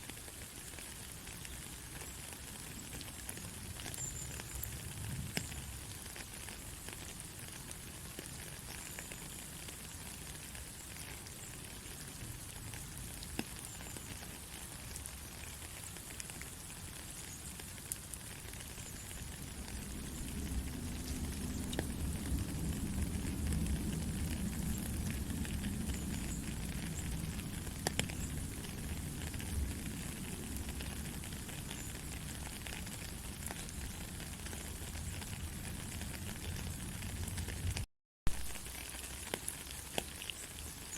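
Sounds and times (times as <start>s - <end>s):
steady light rain: 0.0s - 40.9s.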